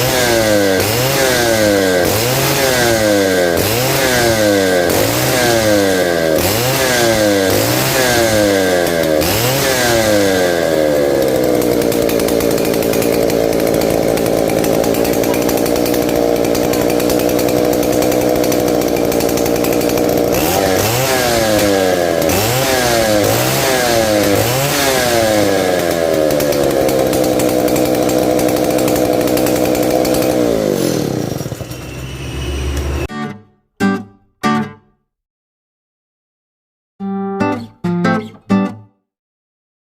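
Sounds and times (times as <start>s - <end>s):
chainsaw engine revving: 0.0s - 33.1s.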